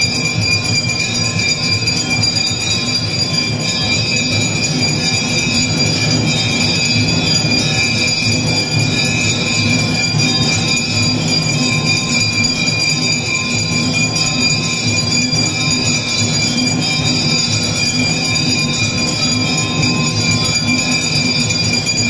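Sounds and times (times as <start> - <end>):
temple bells ringing: 0.0 - 22.0.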